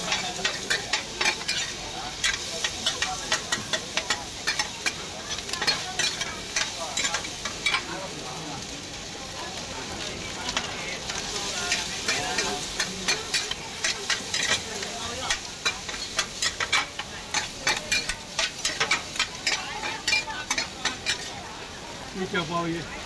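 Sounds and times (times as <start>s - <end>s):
metal spatulas scraping a wok: 0.0s - 7.9s, 10.5s - 21.5s
food sizzling in oil: 0.0s - 23.0s.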